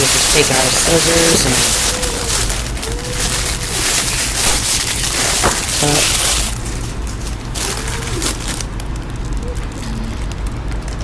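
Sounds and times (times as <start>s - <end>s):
cellophane crinkling: 0.0s - 11.0s.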